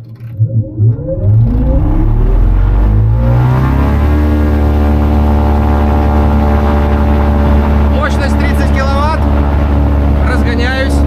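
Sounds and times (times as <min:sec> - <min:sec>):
electric propeller motor whine: 0:00.0 - 0:11.0.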